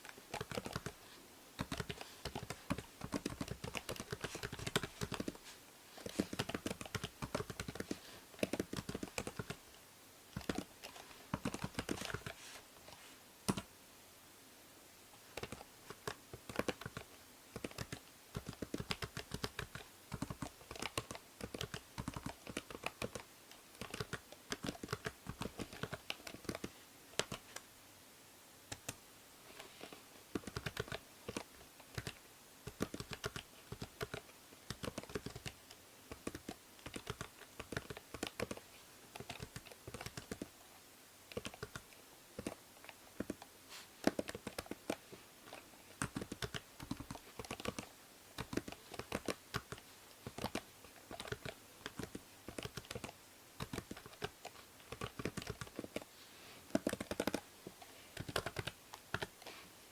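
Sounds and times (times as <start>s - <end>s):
keyboard typing: 0.0s - 1.0s, 1.6s - 9.7s, 10.3s - 12.4s, 13.5s - 13.7s, 15.3s - 27.6s, 28.7s - 29.0s, 30.3s - 40.5s, 41.3s - 56.1s, 56.7s - 59.5s
microphone hiss: 0.0s - 59.9s.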